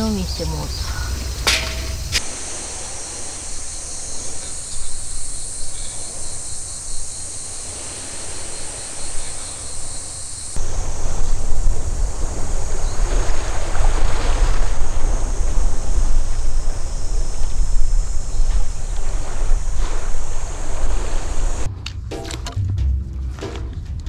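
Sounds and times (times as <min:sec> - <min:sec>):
insects buzzing: 0:00.0 - 0:21.7
wind buffeting microphone: 0:00.0 - 0:21.7
small waves washing on beach: 0:01.3 - 0:21.7.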